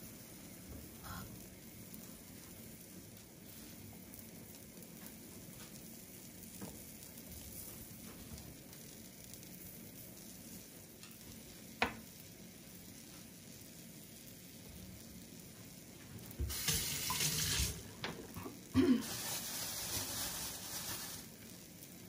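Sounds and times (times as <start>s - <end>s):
omelette sizzling in a frying pan: 0.0s - 22.0s.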